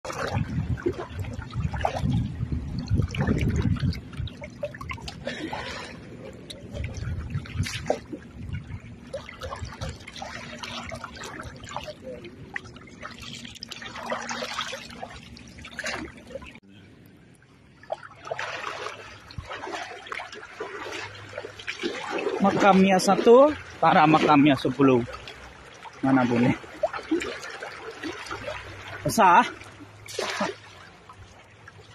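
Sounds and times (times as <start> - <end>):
river water splashing: 0.0 - 31.9.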